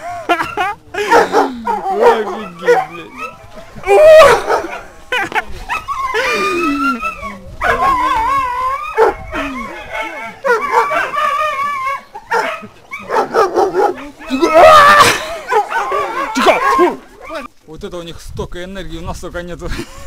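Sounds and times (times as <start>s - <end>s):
young dogs yelping and whining: 0.0s - 17.5s.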